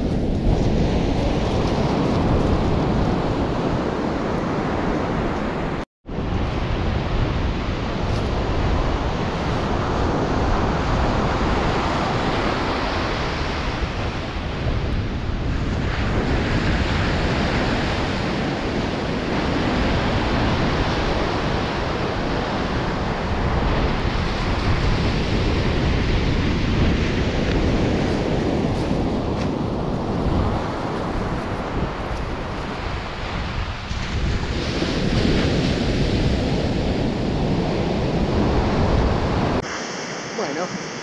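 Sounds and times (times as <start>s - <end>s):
wind rumbling on microphone: 0.0s - 41.0s
ocean waves breaking: 6.6s - 41.0s.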